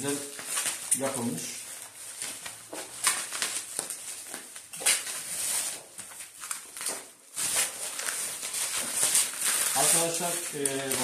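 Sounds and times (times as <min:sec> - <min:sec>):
bubble wrap rustling and crinkling: 0:00.0 - 0:11.0.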